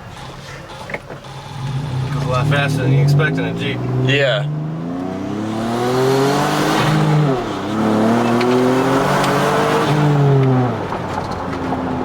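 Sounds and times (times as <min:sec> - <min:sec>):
car engine revving: 0:00.7 - 0:12.0.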